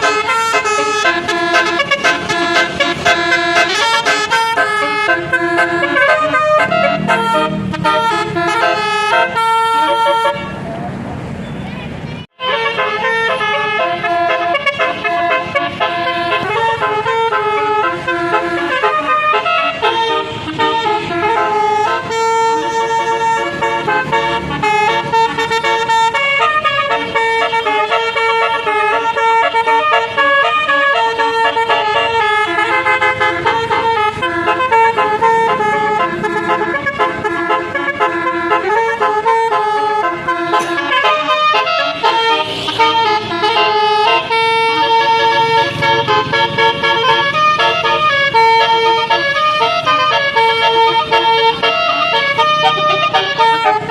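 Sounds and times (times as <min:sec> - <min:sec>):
multi-tone air horn melody: 0:00.0 - 0:10.6, 0:12.2 - 0:53.9.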